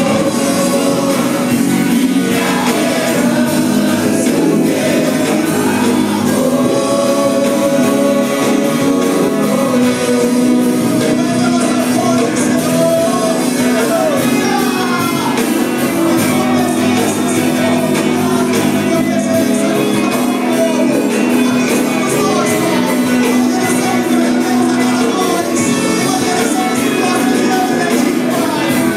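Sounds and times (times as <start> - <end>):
gospel band playing: 0.0 - 28.9
voices singing: 0.0 - 28.9.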